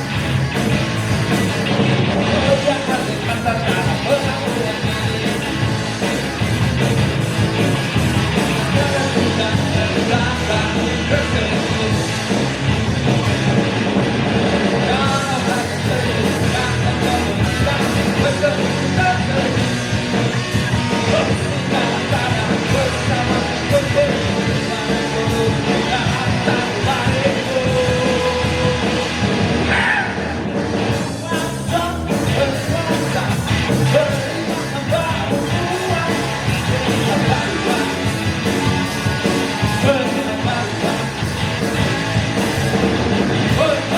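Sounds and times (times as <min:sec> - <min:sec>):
live rock band playing: 0:00.0 - 0:43.9
person singing: 0:02.4 - 0:06.1, 0:07.4 - 0:12.4, 0:14.8 - 0:30.2, 0:31.2 - 0:41.8, 0:43.4 - 0:43.9.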